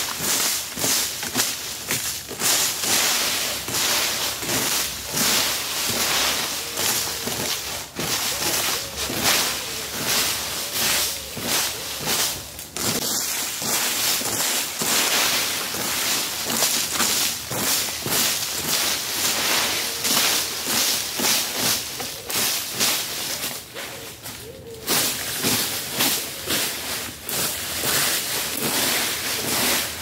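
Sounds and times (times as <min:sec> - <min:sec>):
rake scraping dry leaves: 0:00.0 - 0:30.0.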